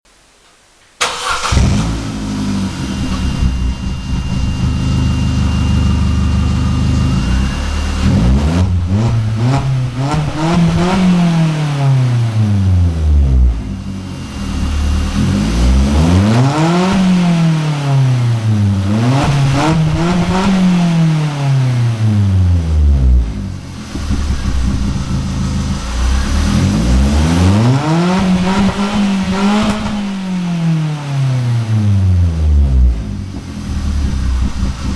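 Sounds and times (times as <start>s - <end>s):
car engine idling and revving: 1.0s - 34.9s.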